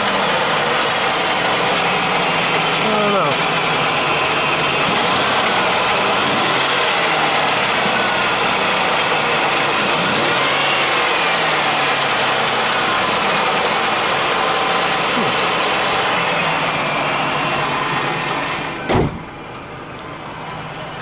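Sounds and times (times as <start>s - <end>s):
car engine idling: 0.0s - 21.0s
faint engine whine: 0.0s - 21.0s.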